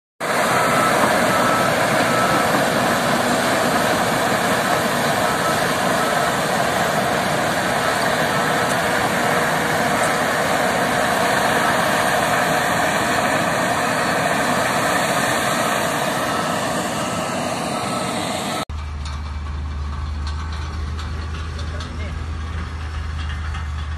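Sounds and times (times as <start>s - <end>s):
heavy diesel machinery running: 0.2s - 23.9s.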